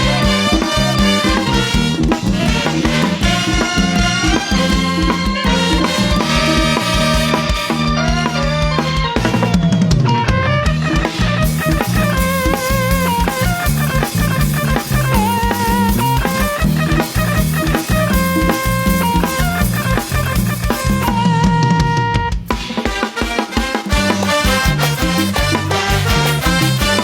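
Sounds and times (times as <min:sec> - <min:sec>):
brass band playing: 0:00.0 - 0:09.9, 0:10.5 - 0:22.1, 0:22.7 - 0:27.0
bass line: 0:00.0 - 0:22.5, 0:23.6 - 0:27.0
drum kit beat: 0:00.0 - 0:27.0.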